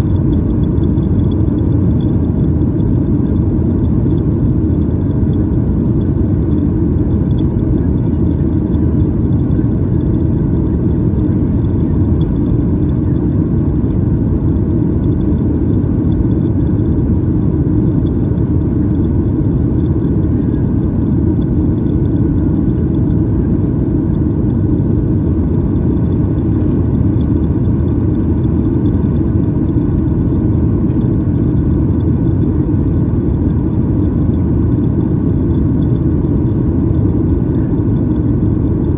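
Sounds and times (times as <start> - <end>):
aircraft cabin roar: 0.0 - 38.9.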